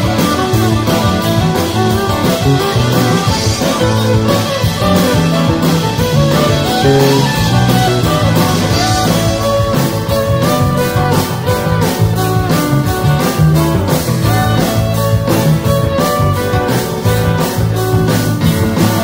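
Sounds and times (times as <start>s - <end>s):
stringed instruments playing: 0.0s - 18.0s
drum kit beat: 0.0s - 19.0s.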